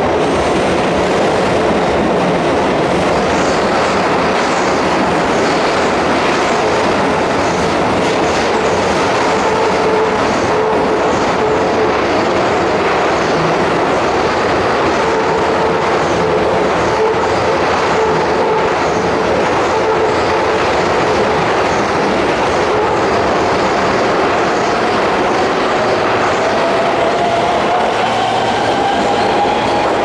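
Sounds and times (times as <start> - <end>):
train wheel and motor noise: 0.0 - 30.0.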